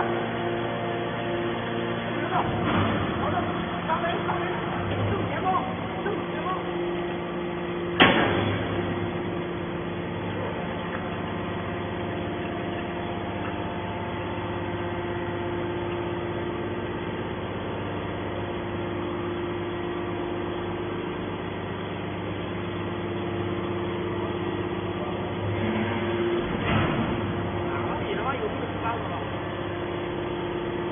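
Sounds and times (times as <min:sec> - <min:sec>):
hydraulic power unit humming: 0:00.0 - 0:30.9.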